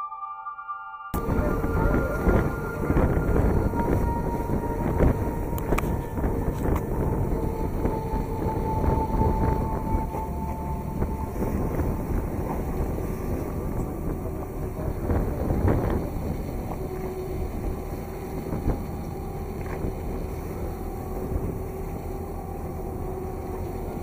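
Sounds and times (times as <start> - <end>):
motorboat engine running: 1.2 - 24.0
water rushing: 1.2 - 24.0
wind on microphone: 1.2 - 24.0.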